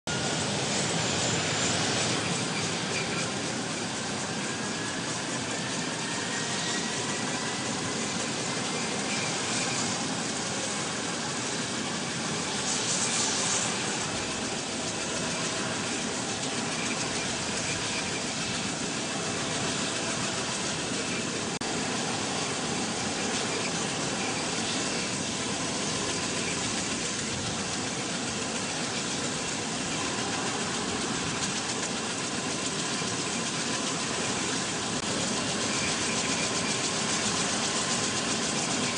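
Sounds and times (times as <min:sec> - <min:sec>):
aircraft engines roaring: 0:00.1 - 0:38.9.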